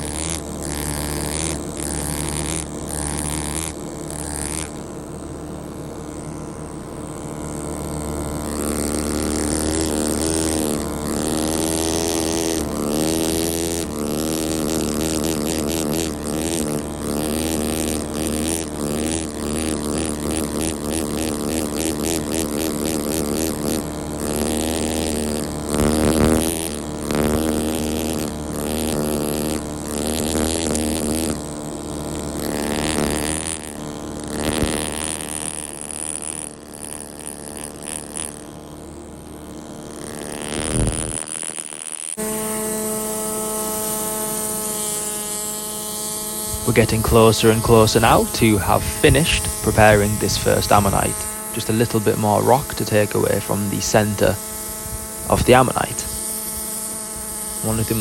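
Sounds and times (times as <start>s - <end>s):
steady low hum: 0.0s - 41.3s, 42.2s - 58.0s.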